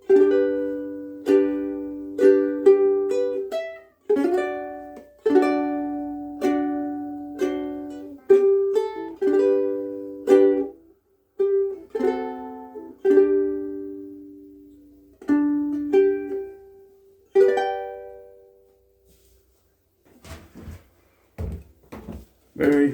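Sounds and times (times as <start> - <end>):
ukulele chords ringing: 0.0 - 19.3.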